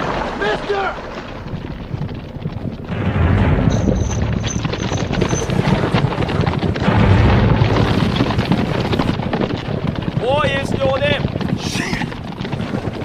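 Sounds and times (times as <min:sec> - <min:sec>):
horses galloping hoofbeats: 0:00.0 - 0:02.9, 0:04.0 - 0:13.0
stagecoach rumbling on dirt: 0:00.1 - 0:13.0.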